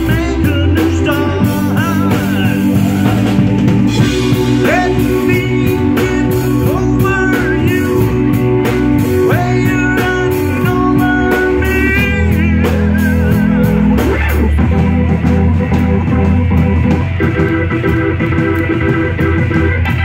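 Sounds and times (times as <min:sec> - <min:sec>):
bent guitar lead line: 0:00.0 - 0:20.0
blues rock band playing: 0:00.0 - 0:20.0.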